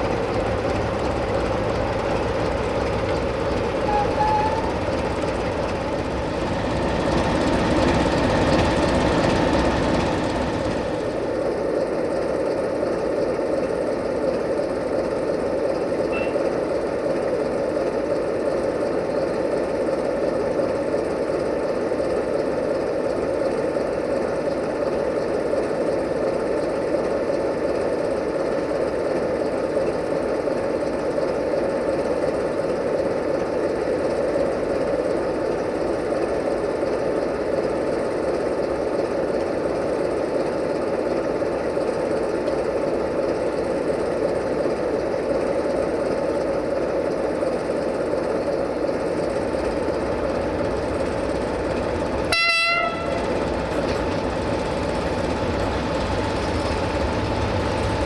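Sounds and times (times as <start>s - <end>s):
diesel locomotive engine idling: 0.0s - 58.0s.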